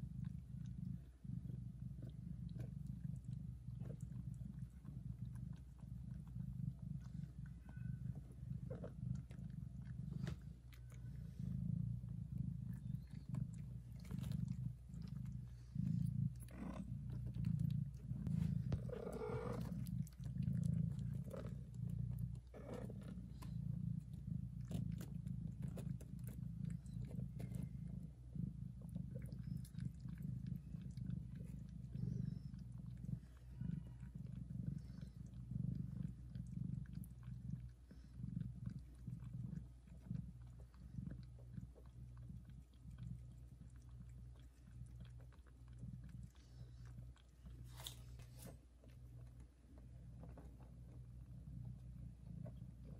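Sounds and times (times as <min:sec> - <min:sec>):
cat purring loudly: 0:00.0 - 0:52.9.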